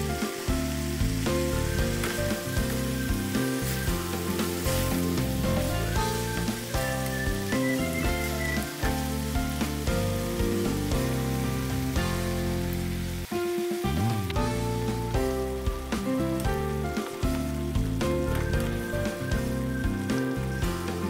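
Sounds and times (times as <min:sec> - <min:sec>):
background music: 0:00.0 - 0:21.0
food sizzling in a pan: 0:00.0 - 0:21.0.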